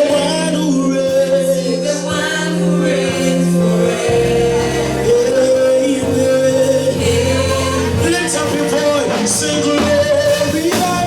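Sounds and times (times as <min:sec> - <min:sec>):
band chords: 0:00.0 - 0:11.0
choir singing: 0:01.4 - 0:11.0.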